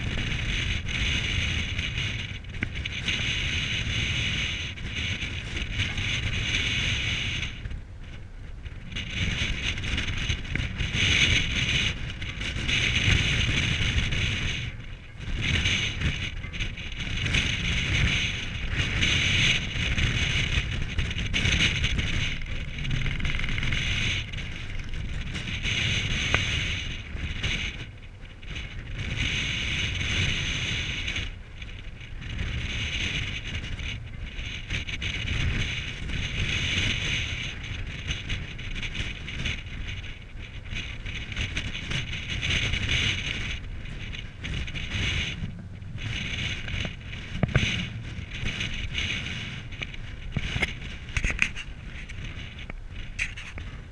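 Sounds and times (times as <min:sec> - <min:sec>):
low engine rumble: 0:00.0 - 0:53.9
wind buffeting the microphone: 0:00.0 - 0:53.9.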